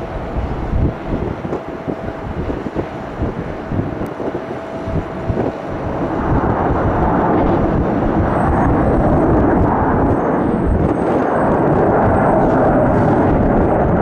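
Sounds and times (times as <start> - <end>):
high fan whine: 0.0 - 14.0
jet engines rumbling: 0.0 - 14.0.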